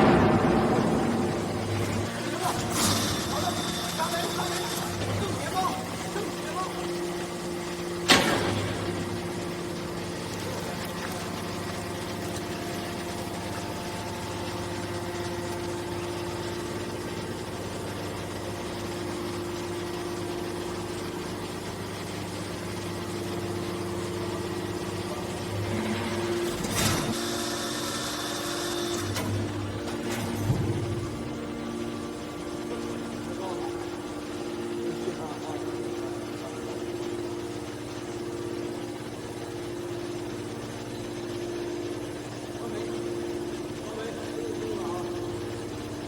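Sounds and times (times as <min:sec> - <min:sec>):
electric motor and pump humming: 0:00.0 - 0:46.0.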